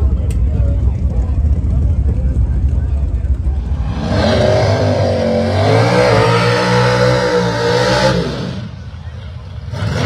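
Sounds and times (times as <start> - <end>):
drag car engine revving: 1.0 - 10.0.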